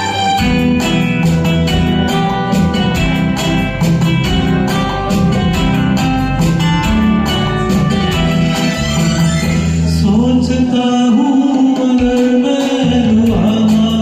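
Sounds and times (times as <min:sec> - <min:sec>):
karaoke backing track with beat: 0:00.0 - 0:14.0.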